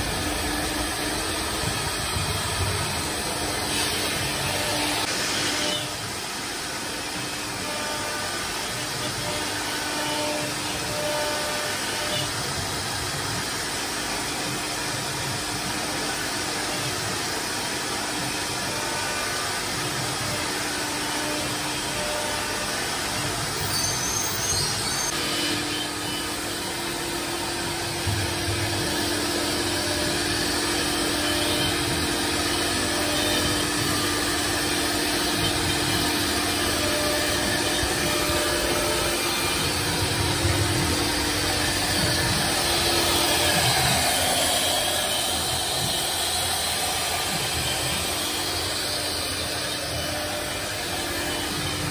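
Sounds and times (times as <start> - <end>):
machine hum: 0.0 - 14.8, 24.7 - 51.9
router routing wood: 0.0 - 51.9.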